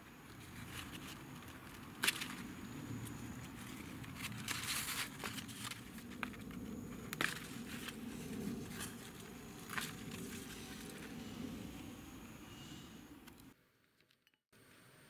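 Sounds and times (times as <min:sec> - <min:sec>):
leaves rustling and crackling: 0:00.0 - 0:12.2.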